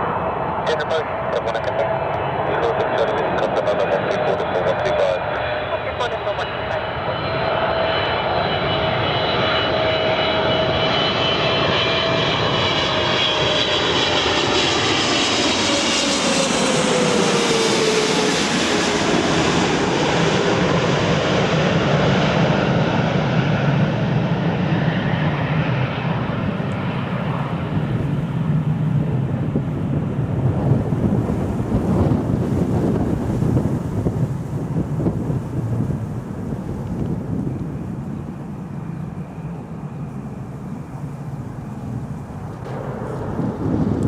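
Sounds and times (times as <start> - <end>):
jet engine whine: 0.0 - 44.0
low jet roar: 0.0 - 44.0.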